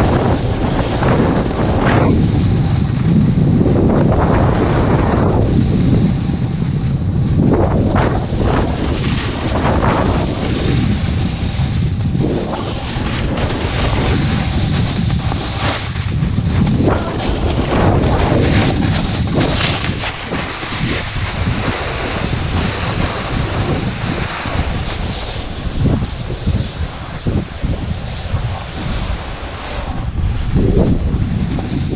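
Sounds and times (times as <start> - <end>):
skis scraping across snow: 0.0 - 31.9
wind buffeting microphone: 0.0 - 31.9.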